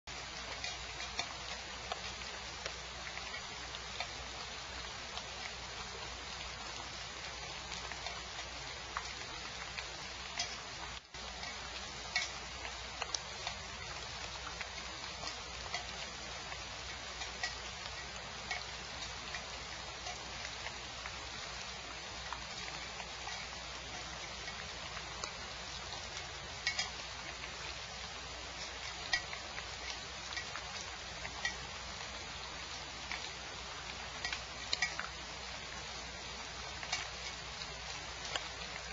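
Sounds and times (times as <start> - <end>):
rain hiss: 0.0 - 38.9
raindrops ticking close by: 0.0 - 38.9.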